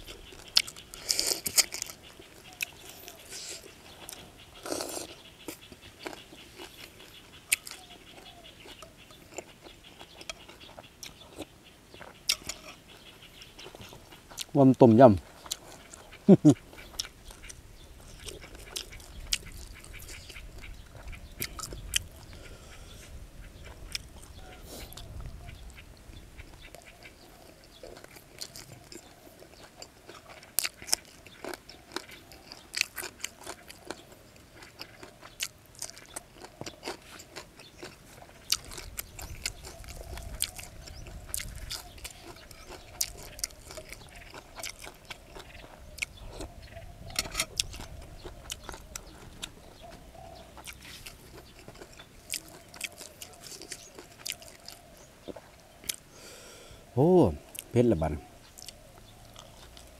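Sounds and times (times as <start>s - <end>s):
person chewing crunchy food: 0.0s - 25.8s, 26.4s - 56.8s, 57.4s - 57.8s, 58.4s - 59.9s.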